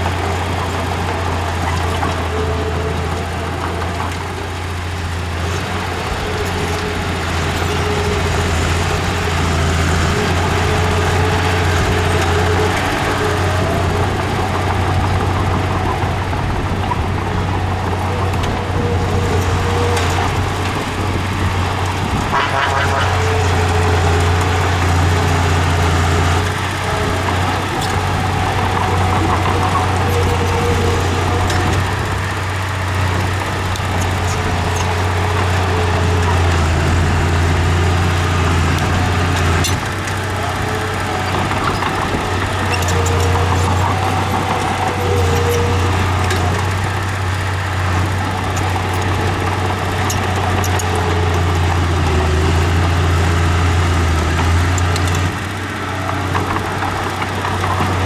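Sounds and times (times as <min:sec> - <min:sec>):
bulldozer diesel engine humming: 0:00.0 - 0:58.0.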